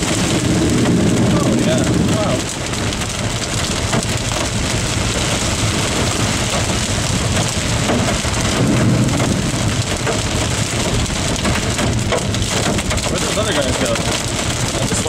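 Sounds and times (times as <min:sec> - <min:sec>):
rain hitting vehicle: 0:00.0 - 0:15.0
road rumble: 0:00.0 - 0:15.0
wind: 0:00.0 - 0:15.0.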